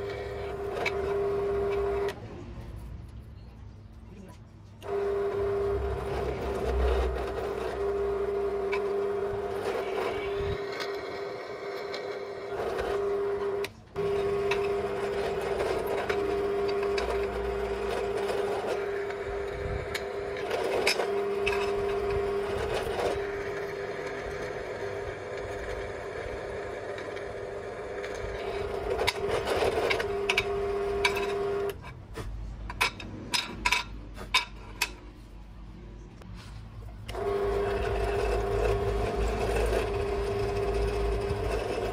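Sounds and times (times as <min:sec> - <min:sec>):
electric motors whining: 0:00.0 - 0:02.2, 0:04.8 - 0:31.8, 0:37.0 - 0:41.9.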